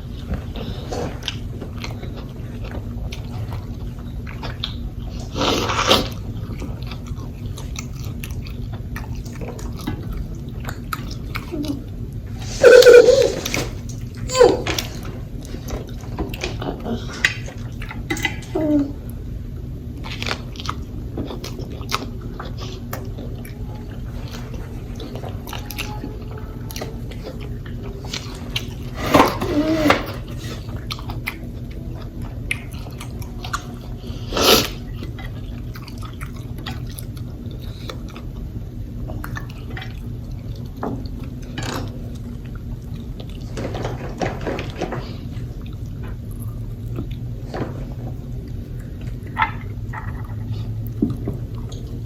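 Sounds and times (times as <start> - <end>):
chewing and lip-smacking: 0.0 - 18.5, 19.9 - 28.9, 30.2 - 43.7, 44.5 - 52.0.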